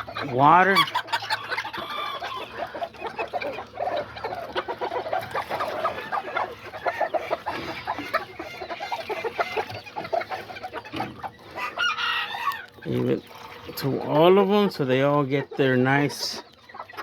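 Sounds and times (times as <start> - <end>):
chickens clucking and calling: 0.0 - 17.0.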